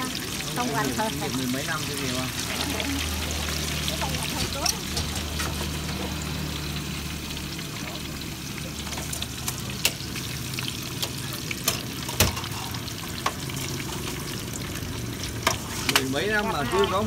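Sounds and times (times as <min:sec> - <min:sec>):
oil sizzling in a wok: 0:00.0 - 0:17.0.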